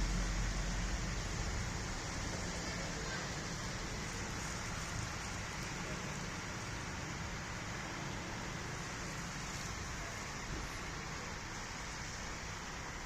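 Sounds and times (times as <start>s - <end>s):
passing traffic: 0.0s - 13.0s
rain hiss: 0.0s - 13.0s.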